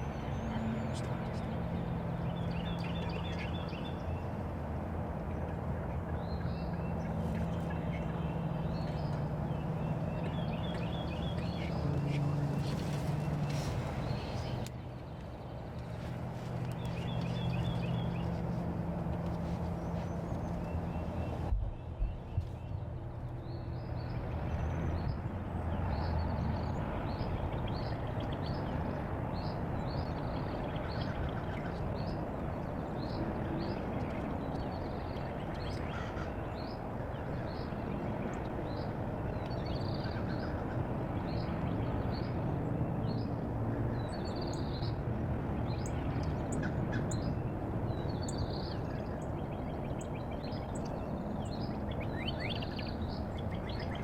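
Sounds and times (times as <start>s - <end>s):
small birds chirping: 0.0s - 4.5s, 5.2s - 54.0s
steady rushing background noise: 0.0s - 54.0s.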